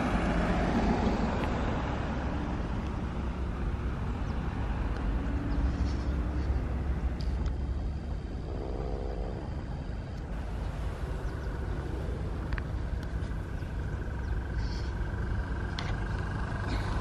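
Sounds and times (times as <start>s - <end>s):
vehicle rumble and road noise: 0.0s - 17.0s.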